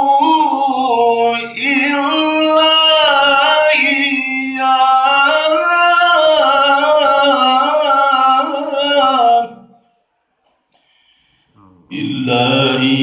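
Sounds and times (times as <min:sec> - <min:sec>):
person reciting melodically: 0:00.0 - 0:09.6, 0:11.6 - 0:13.0.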